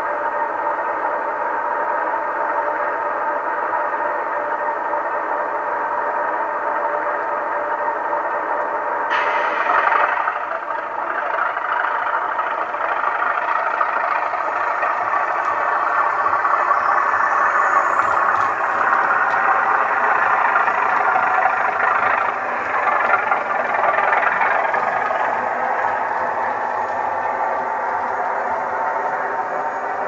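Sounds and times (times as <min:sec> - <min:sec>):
model diesel engine sound from speaker: 0:00.0 - 0:30.0.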